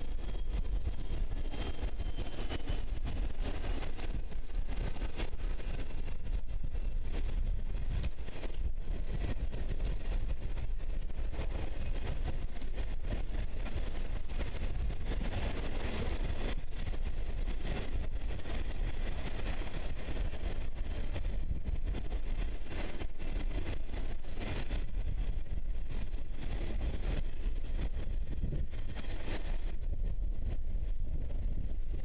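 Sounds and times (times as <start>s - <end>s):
train wheels on rails: 0.0s - 32.0s
wind buffeting microphone: 0.0s - 32.0s.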